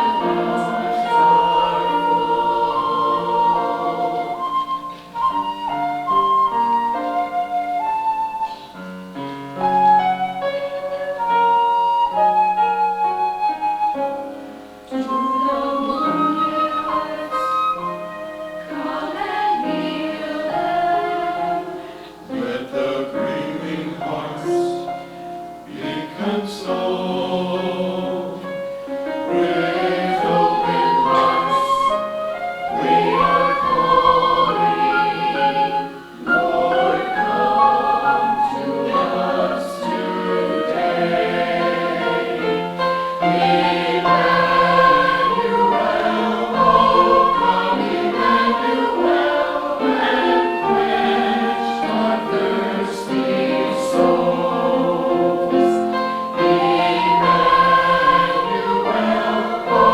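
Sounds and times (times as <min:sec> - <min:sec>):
church choir singing: 0:00.0 - 0:59.9.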